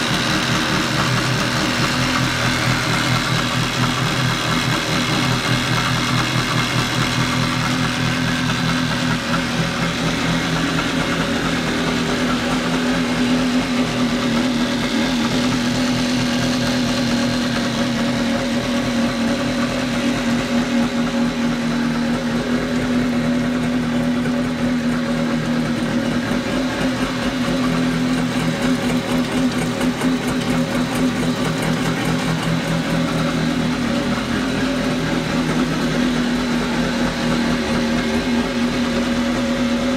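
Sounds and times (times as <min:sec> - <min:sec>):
two-stroke engine idling: 0:00.0 - 0:39.9.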